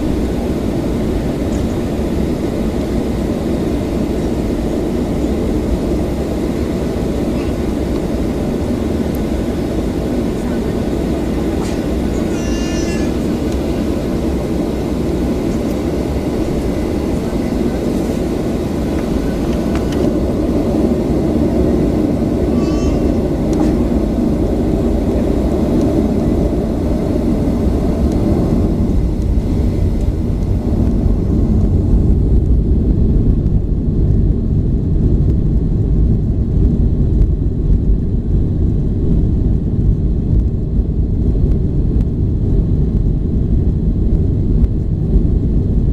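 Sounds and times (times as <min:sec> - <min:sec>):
jet engines rumbling in cabin: 0:00.0 - 0:45.9.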